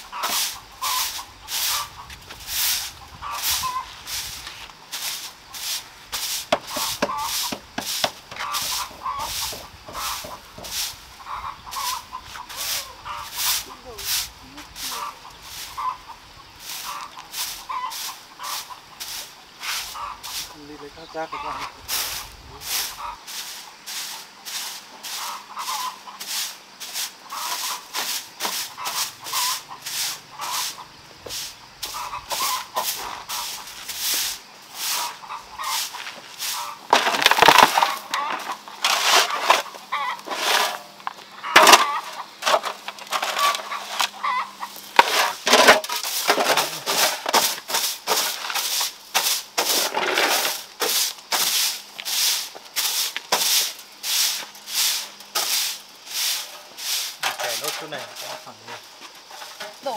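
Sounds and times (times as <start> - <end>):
broom sweeping on concrete: 0.0 - 59.9
chickens clucking: 0.0 - 59.9.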